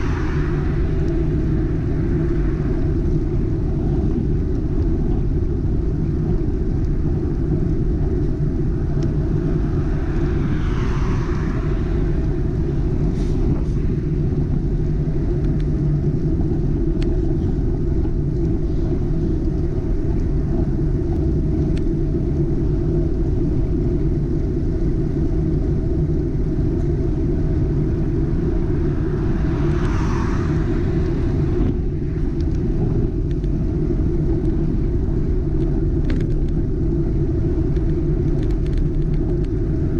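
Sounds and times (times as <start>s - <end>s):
vehicles overtaking with tyre hiss: 0.0s - 35.9s
wind rumble on microphone: 0.0s - 39.9s.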